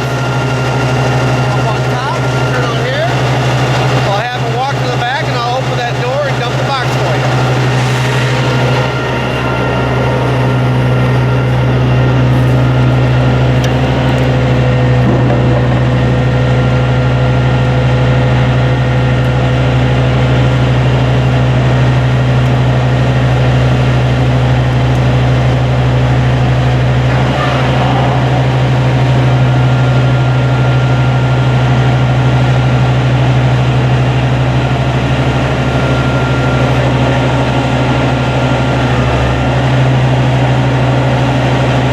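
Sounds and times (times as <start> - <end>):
steady whining tones: 0.0 - 41.9
truck engine low drone: 0.0 - 41.9.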